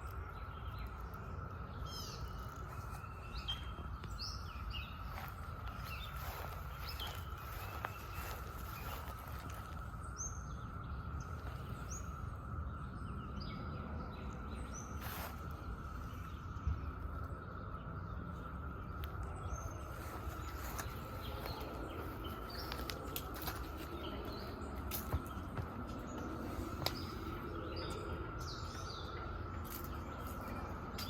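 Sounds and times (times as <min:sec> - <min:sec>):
bird chirping: 0:00.0 - 0:31.0
cicadas chorusing: 0:00.0 - 0:31.0.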